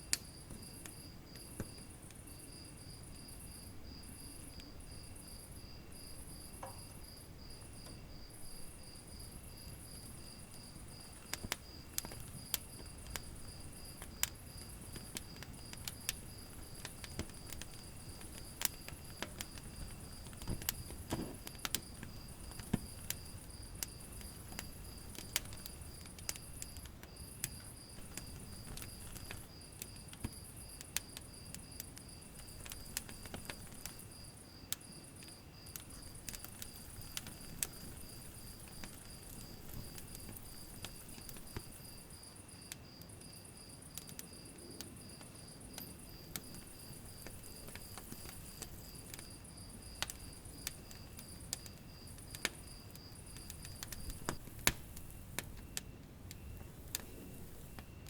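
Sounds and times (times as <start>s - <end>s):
cricket chirping: 0.0s - 58.0s
low rumble of fire: 0.0s - 58.0s
wood fire crackling: 0.0s - 58.0s.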